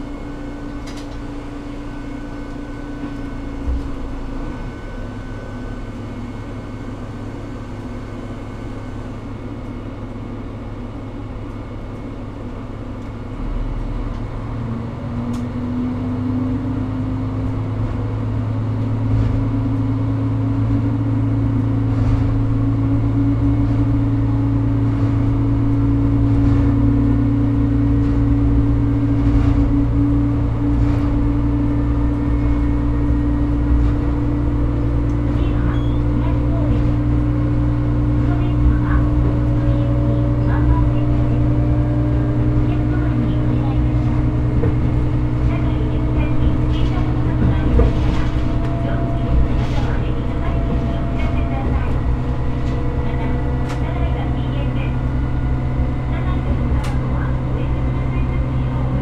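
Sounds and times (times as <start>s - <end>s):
diesel engine idling and accelerating: 0.0s - 59.0s.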